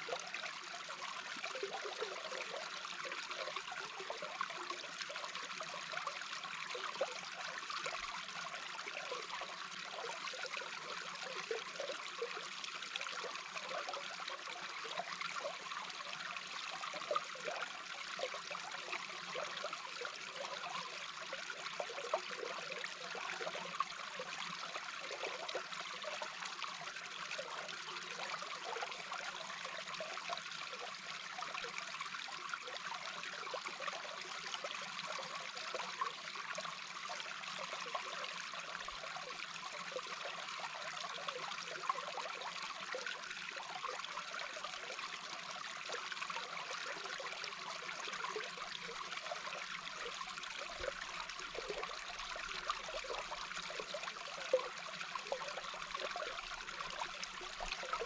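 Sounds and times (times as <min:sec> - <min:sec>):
flowing water underwater: 0:00.0 - 0:58.0.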